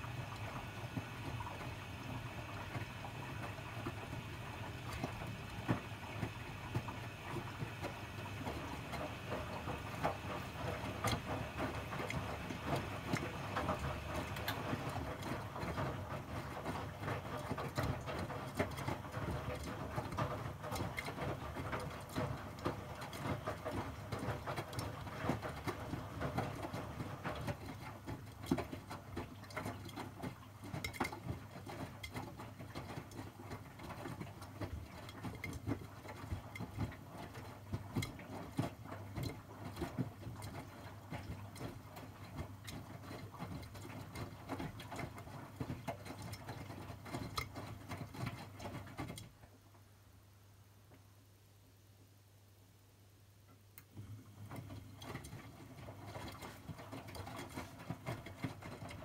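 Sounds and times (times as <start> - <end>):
laundry tumbling in washing machine: 0.0 - 49.8, 53.9 - 59.0.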